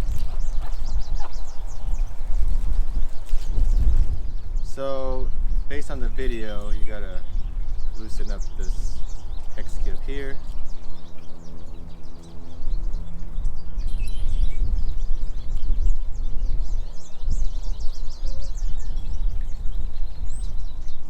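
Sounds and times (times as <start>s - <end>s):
bird chirps: 0.0s - 21.0s
wind buffeting microphone: 0.0s - 21.0s.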